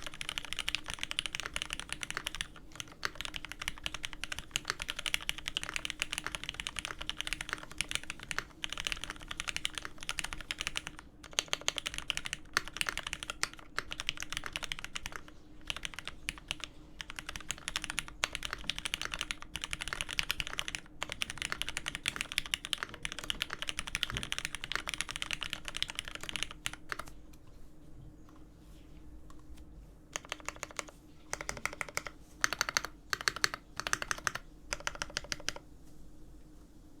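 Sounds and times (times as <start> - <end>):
mechanical keyboard typing: 0.0 - 27.2, 30.1 - 35.6.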